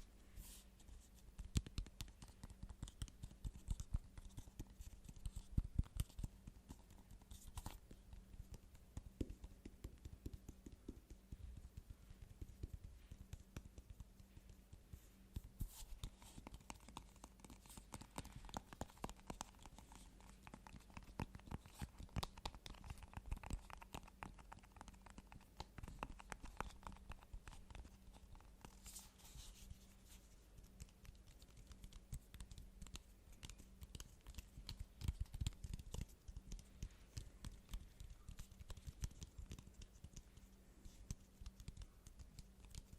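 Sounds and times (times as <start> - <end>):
fingers tapping and scratching: 1.4 - 42.9.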